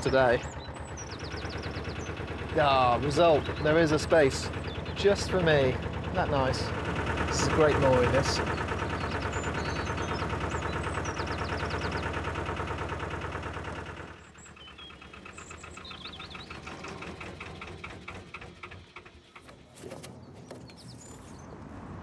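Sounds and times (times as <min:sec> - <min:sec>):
diesel engine running at low revs: 0:00.0 - 0:22.0.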